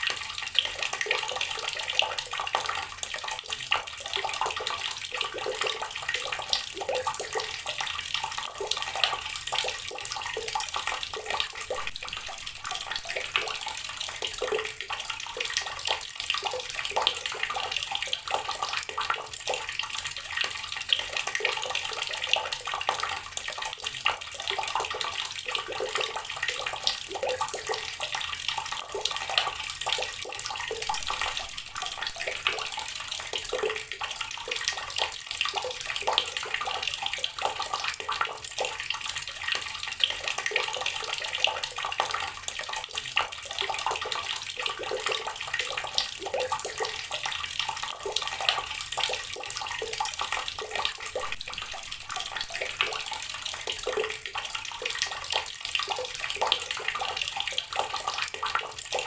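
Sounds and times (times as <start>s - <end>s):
water pouring from a tap onto rocks: 0.0s - 59.0s.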